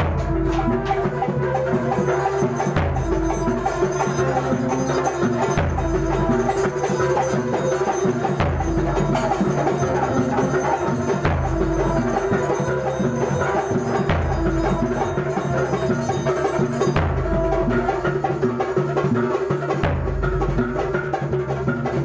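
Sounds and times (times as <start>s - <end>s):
percussion ensemble playing: 0.0s - 22.0s
held melodic tones: 0.3s - 18.4s.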